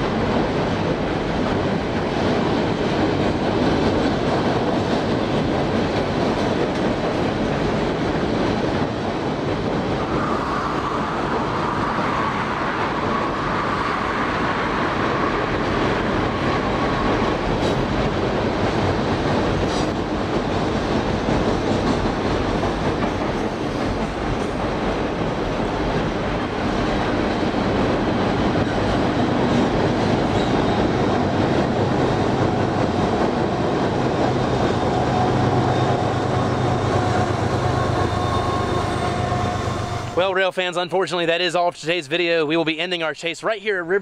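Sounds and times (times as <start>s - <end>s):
train wheels rumbling on rails: 0.0s - 41.4s.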